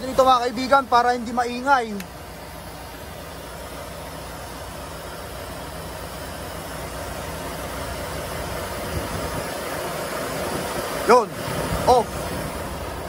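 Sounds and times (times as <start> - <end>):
refrigeration unit engine drone: 0.0 - 13.0.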